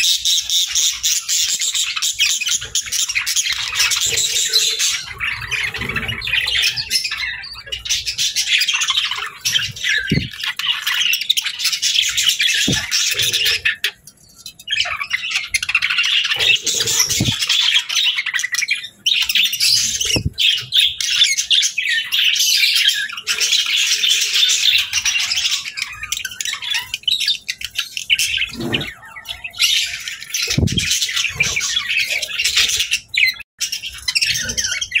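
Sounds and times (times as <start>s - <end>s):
budgerigars chattering and chirping: 0.0s - 35.0s.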